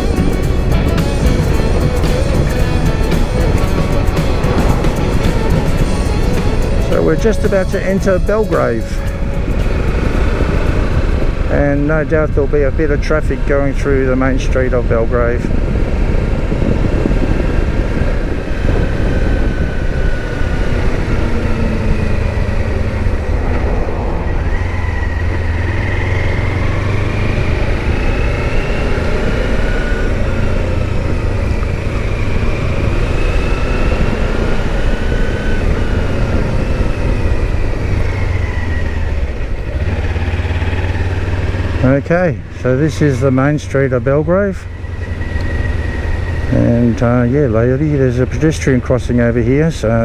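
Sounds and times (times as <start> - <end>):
motorcycle engine running: 0.0 - 50.0
wind and road noise: 0.0 - 50.0.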